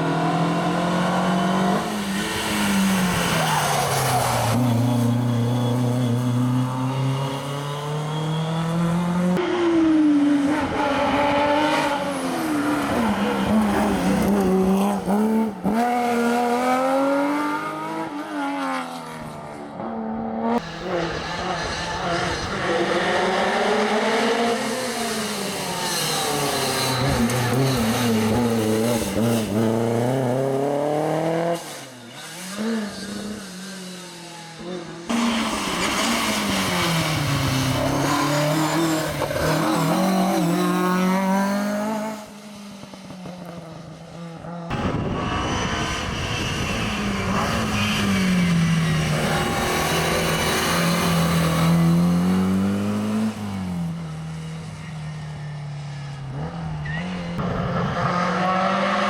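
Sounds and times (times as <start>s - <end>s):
rally cars passing: 0.0s - 59.0s.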